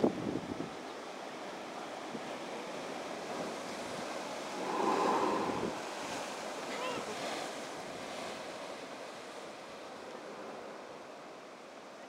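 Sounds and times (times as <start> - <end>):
ocean surf breaking on rocks: 0.0 - 11.8.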